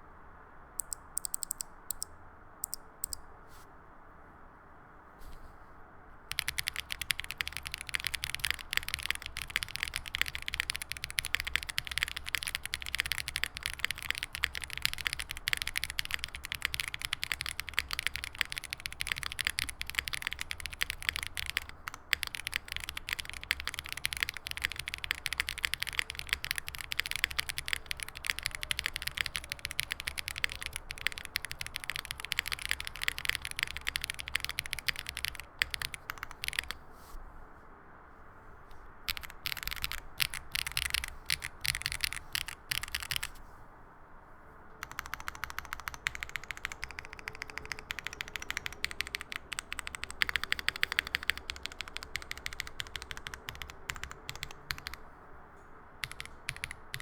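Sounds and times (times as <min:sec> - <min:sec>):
mechanical keyboard typing: 0:00.8 - 0:03.2, 0:06.3 - 0:36.9, 0:39.1 - 0:43.4, 0:44.8 - 0:55.1, 0:56.0 - 0:57.0.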